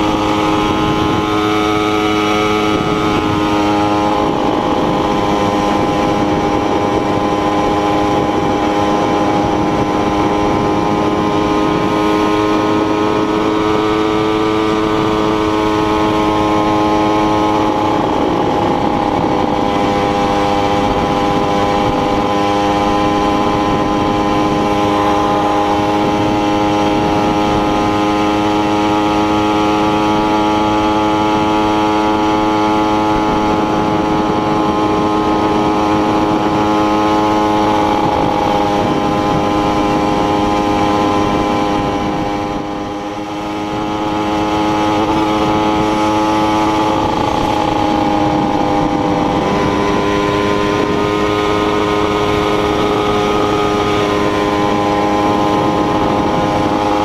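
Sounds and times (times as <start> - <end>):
small motorcycle engine buzzing: 0.0 - 57.0.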